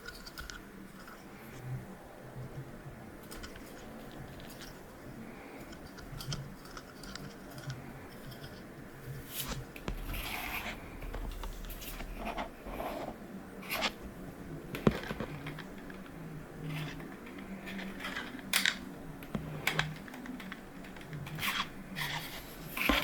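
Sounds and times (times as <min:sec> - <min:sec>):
plastic parts scraping and clicking: 0:00.0 - 0:01.8, 0:03.2 - 0:23.0.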